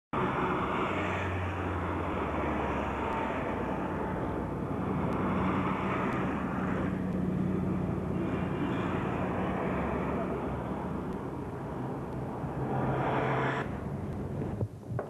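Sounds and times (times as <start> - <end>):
constant low hum: 0.2 - 15.0
low engine rumble: 0.2 - 15.0.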